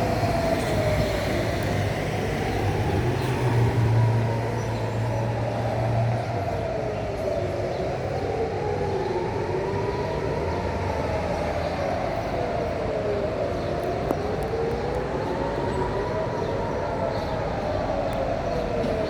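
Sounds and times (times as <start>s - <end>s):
air-raid sirens wailing: 0.0s - 19.0s.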